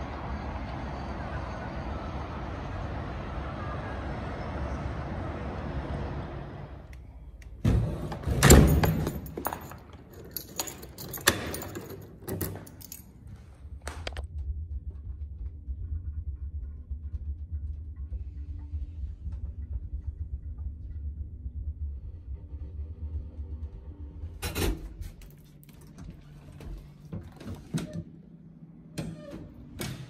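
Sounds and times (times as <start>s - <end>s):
elevator humming: 0.0s - 30.0s.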